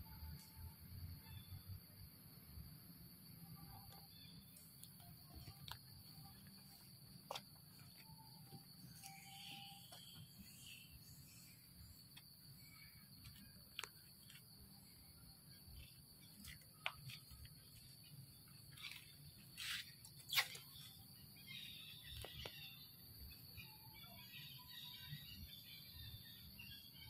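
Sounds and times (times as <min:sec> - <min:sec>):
faint insect drone: 0:00.0 - 0:27.0.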